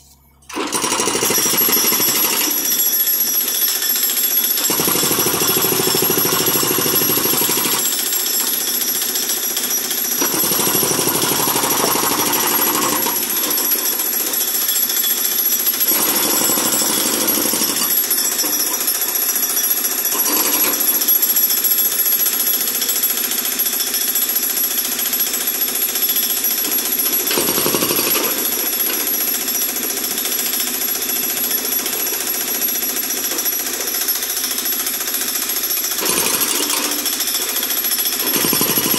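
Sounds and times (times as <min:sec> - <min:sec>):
hydraulic breaker hammering concrete: 0:00.5 - 0:38.9.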